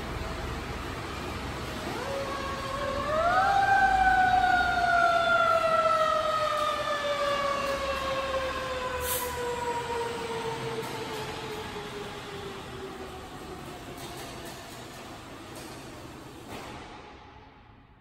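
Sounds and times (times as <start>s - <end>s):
fire engine siren: 0.0s - 15.0s.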